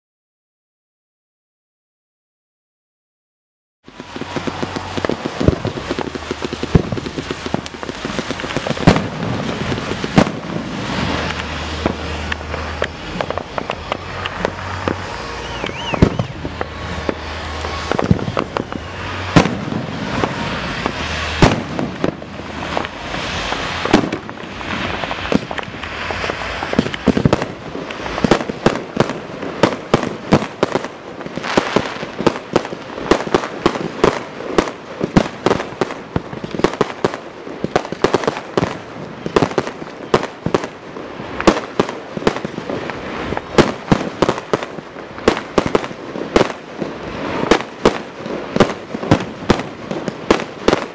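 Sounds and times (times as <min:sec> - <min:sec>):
fireworks bursting with bangs: 0:03.9 - 0:50.9.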